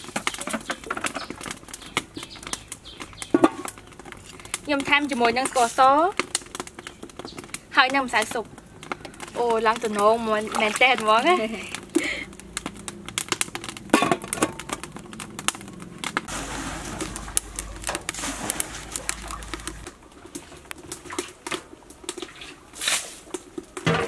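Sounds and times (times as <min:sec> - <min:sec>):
sharp clicks and crackles: 0:00.0 - 0:16.3, 0:16.9 - 0:23.9.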